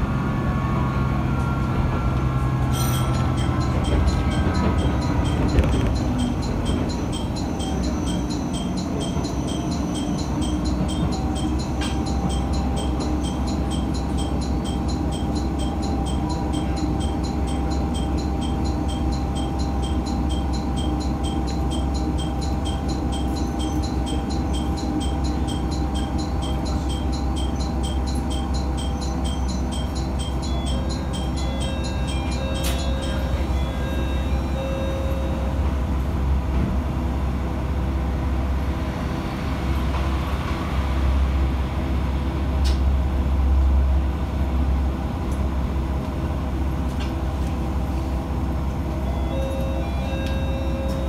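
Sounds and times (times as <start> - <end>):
railcar engine rumble: 0.0 - 51.0.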